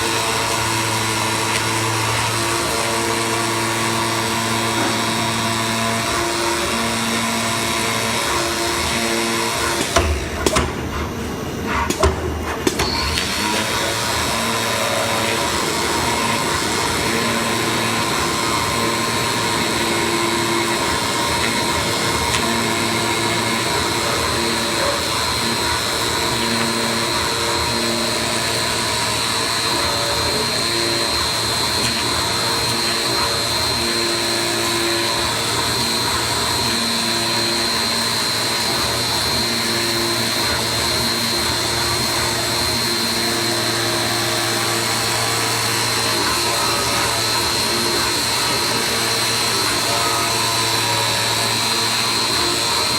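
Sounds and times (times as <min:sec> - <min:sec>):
blower whine: 0:00.0 - 0:52.9
cutting head humming tones: 0:00.0 - 0:52.9.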